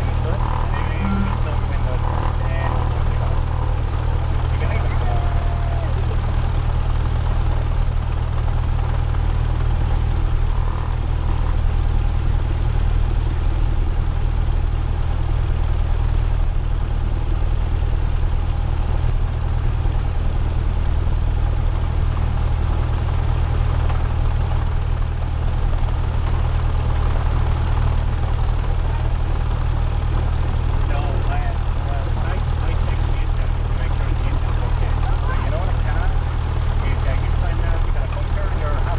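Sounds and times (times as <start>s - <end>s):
propeller airplane engine drone: 0.0s - 38.9s.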